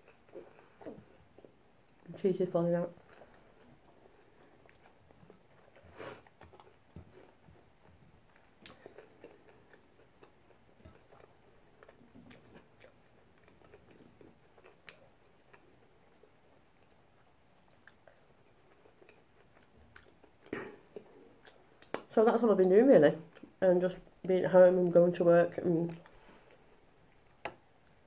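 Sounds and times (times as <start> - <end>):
faint chewing: 0.0 - 22.2, 23.2 - 28.0.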